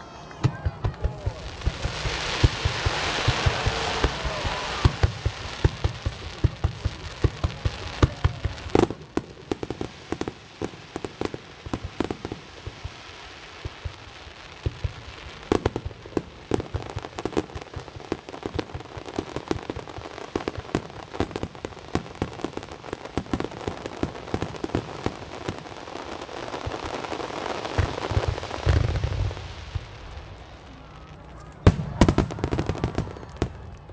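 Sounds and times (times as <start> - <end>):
fireworks crackling and popping: 0.0 - 33.9.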